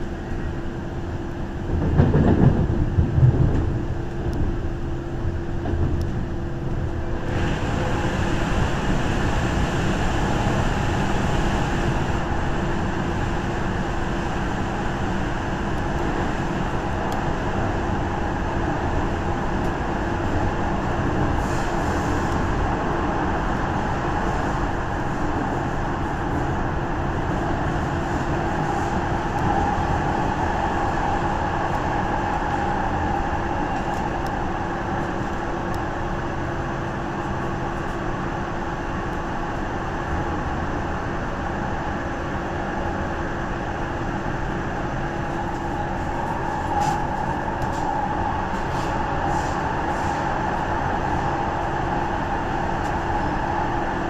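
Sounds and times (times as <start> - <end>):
constant hum: 0.0 - 54.0
train rumbling through tunnel: 0.0 - 54.0.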